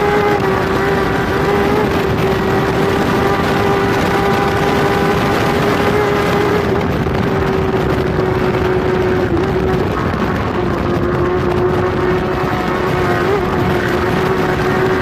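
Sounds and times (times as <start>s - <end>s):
motorcycle engine revving high: 0.0s - 15.0s
wind rushing on microphone: 0.0s - 15.0s.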